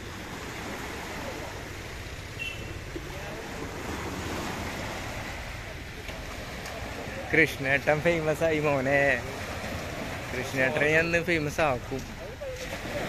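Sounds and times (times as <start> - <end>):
small waves breaking on sand: 0.0 - 13.0.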